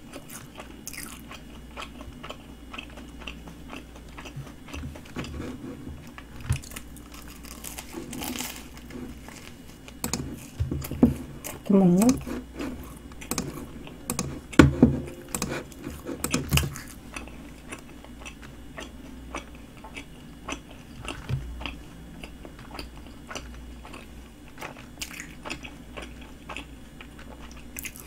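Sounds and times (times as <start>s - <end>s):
crunchy pastry chewing: 0.0s - 14.6s, 15.5s - 28.0s.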